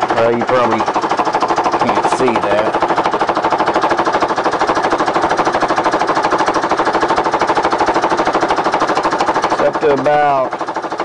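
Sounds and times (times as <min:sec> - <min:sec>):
air compressor running: 0:00.0 - 0:11.0
knock in compressor: 0:00.0 - 0:11.0.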